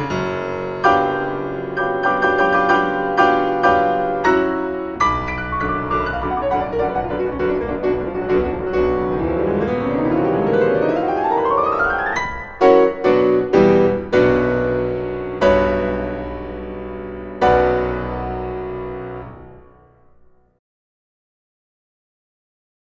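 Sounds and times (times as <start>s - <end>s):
piano music: 0.0s - 20.6s.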